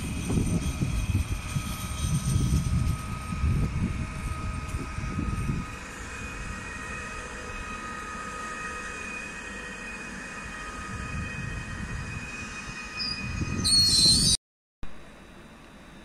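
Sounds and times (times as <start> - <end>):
electric train whining and rumbling: 0.0 - 16.0.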